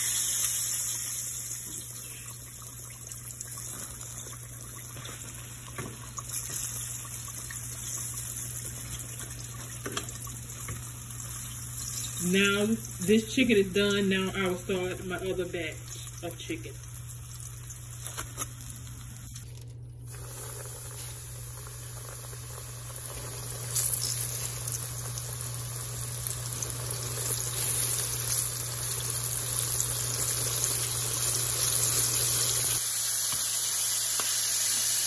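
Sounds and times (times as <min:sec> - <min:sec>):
chicken frying in hot oil: 0:00.0 - 0:35.0.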